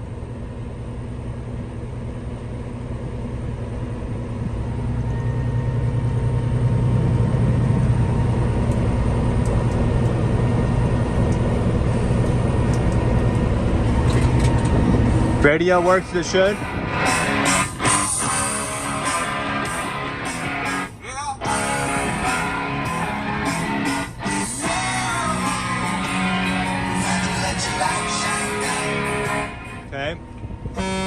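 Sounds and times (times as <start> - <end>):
diesel truck engine running: 0.0 - 31.0.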